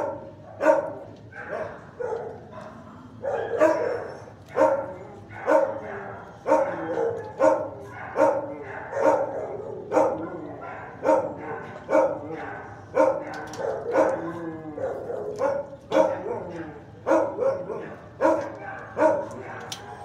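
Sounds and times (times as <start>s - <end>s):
dog barking: 0.0s - 20.0s.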